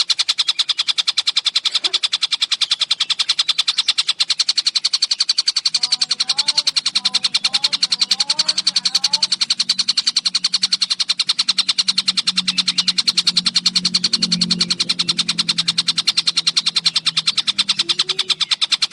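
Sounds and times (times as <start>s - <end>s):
kingfisher harsh clicking chatter: 0.0s - 18.9s.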